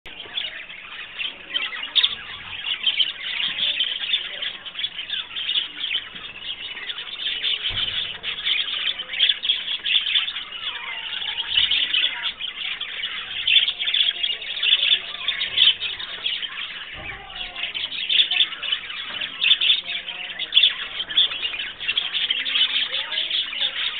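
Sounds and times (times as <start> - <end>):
budgerigars chattering: 0.1 - 23.9.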